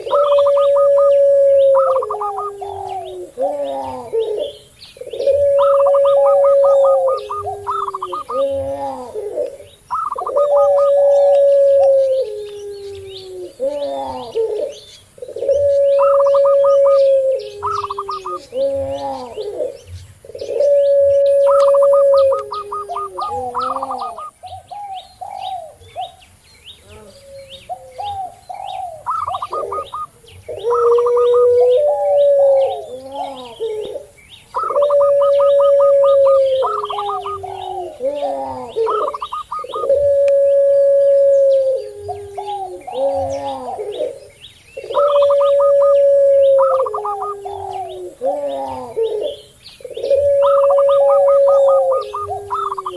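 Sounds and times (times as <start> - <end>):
spotted dove calls: 0.0 - 26.2, 26.8 - 52.9
dove long drawn-out coos: 0.0 - 52.9.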